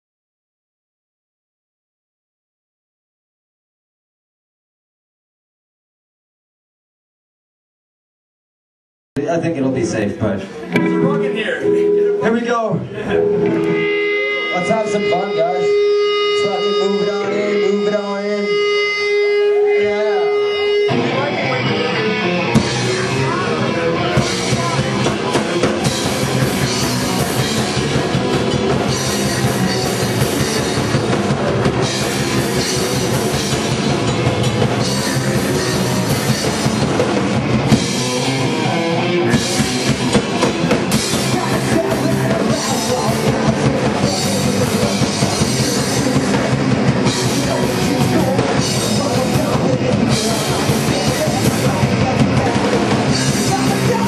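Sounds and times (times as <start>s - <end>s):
bass guitar: 9.2s - 54.0s
distorted electric guitar: 10.4s - 54.0s
drum kit: 10.6s - 54.0s
punk rock band playing live: 10.6s - 54.0s.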